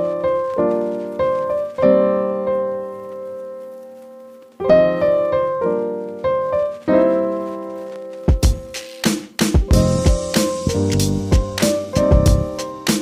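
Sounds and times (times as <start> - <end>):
piano chords ringing: 0.0 - 8.8, 9.6 - 13.0.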